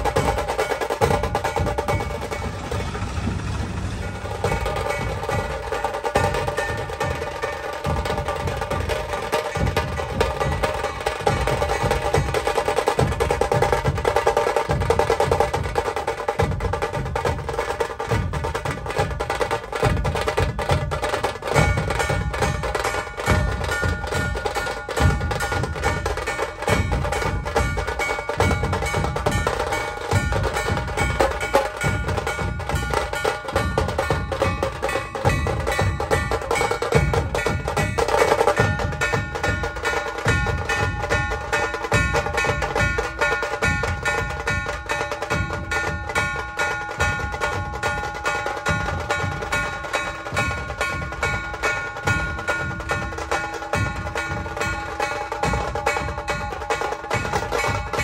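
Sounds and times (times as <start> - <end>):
fast dense drumming: 0.0 - 58.0.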